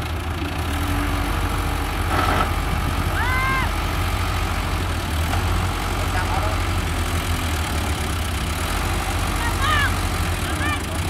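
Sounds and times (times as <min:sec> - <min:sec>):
bulldozer diesel engine idling: 0:00.0 - 0:11.0.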